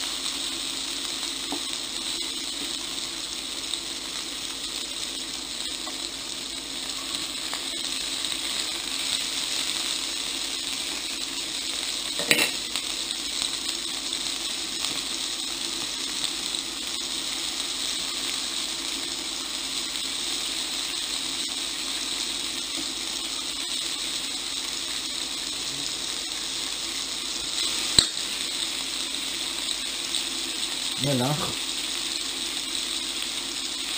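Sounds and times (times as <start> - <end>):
food sizzling in hot oil: 0.0 - 33.9.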